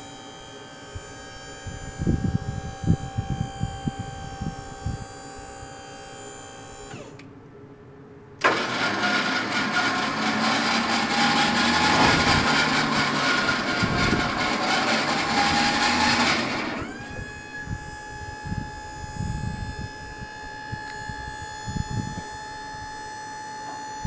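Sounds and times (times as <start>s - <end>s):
hydraulic pump whining: 0.0s - 7.3s, 8.4s - 24.0s
hydraulic whine winding down: 0.0s - 7.3s, 8.4s - 24.0s.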